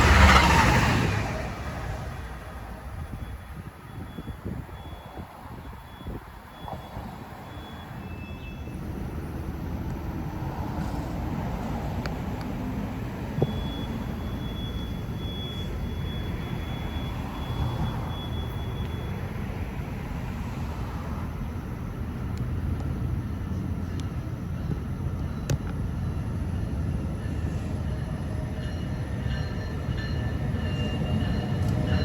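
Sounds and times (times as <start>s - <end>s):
train rumbling past: 0.0s - 32.0s.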